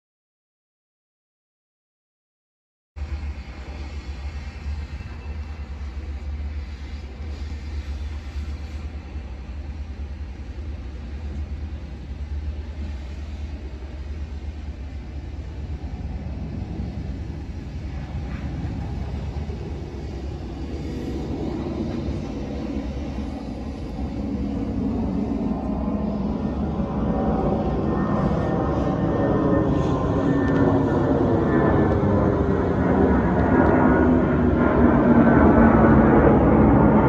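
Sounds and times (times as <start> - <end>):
jet engines rumbling: 3.0 - 37.0.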